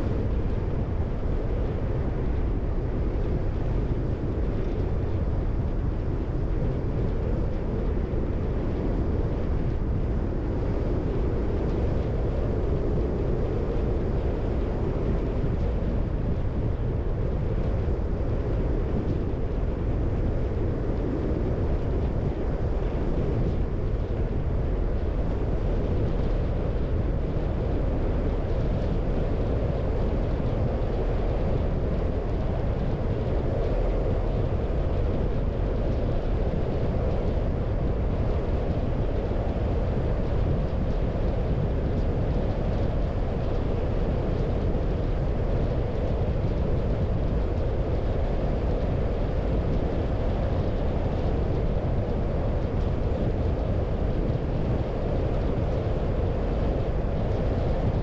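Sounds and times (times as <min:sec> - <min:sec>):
wind noise: 0:00.0 - 0:58.0.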